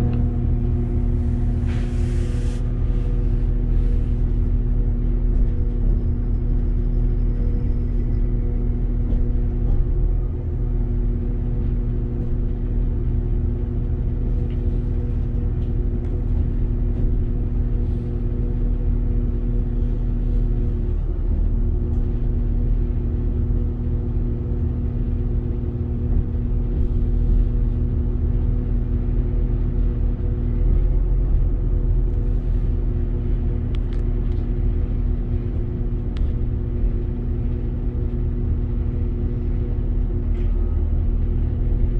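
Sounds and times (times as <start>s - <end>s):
low rumble: 0.0s - 41.9s
train engine hum: 0.0s - 41.9s.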